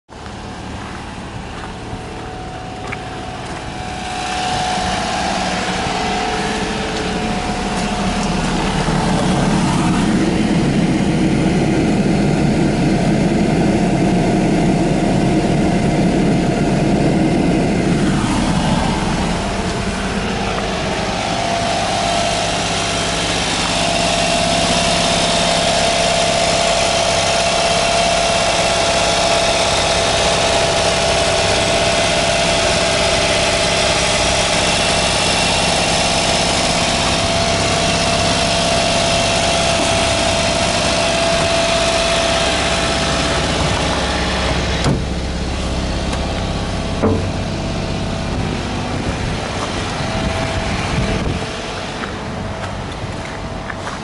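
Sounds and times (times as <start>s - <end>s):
small truck engine idling: 0.1s - 54.0s.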